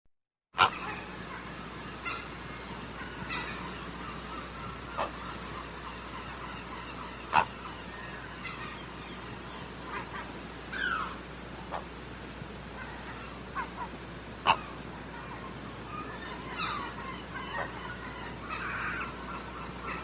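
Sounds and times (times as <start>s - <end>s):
heron squawking: 0.6s - 12.0s, 12.7s - 20.0s
steady background hiss: 0.6s - 20.0s.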